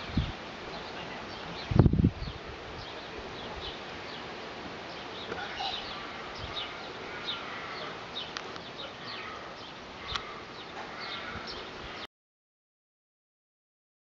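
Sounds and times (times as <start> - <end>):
small birds chirping: 0.0 - 12.1
steady background hiss: 0.0 - 12.1.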